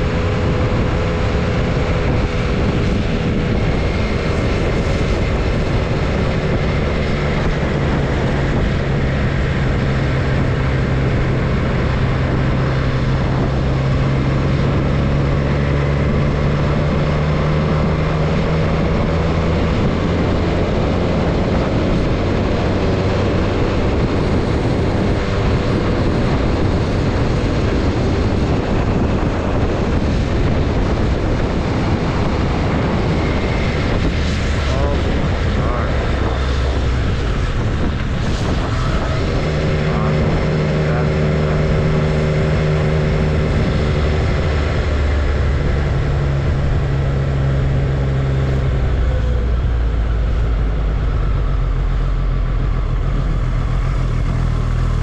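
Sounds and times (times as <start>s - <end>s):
motorcycle engine running: 0.0s - 55.0s
tyre noise on road: 0.0s - 55.0s
wind rushing over microphone: 0.0s - 55.0s.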